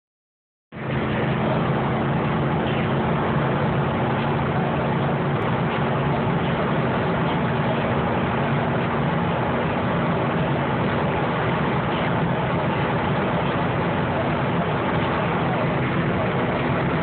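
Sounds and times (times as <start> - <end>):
car engine drone: 0.7 - 17.0
loud wind noise: 0.7 - 17.0
road noise: 0.7 - 17.0.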